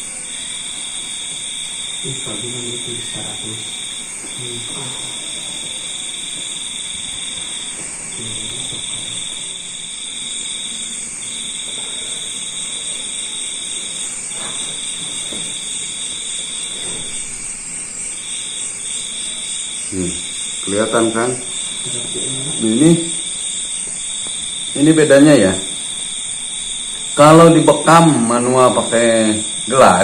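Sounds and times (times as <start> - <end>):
constant high hiss: 0.0 - 30.0
high-pitched buzzing tone: 0.0 - 30.0.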